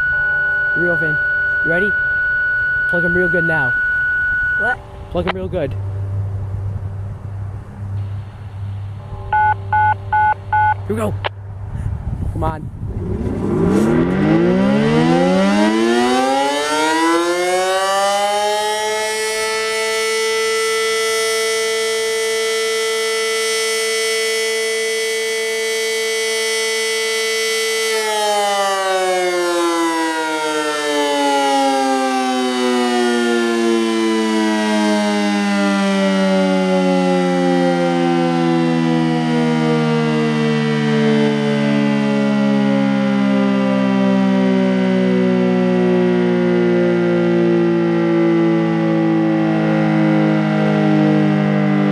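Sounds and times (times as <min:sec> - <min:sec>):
fire siren wailing: 0:00.0 - 0:04.8, 0:13.0 - 0:51.9.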